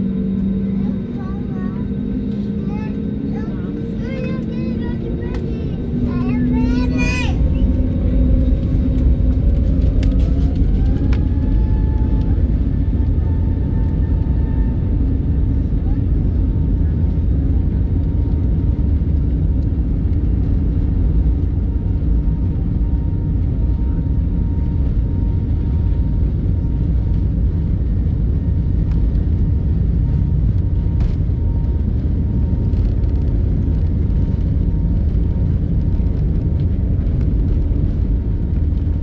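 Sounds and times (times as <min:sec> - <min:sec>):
moving vehicle rumble: 0:00.0 - 0:39.0.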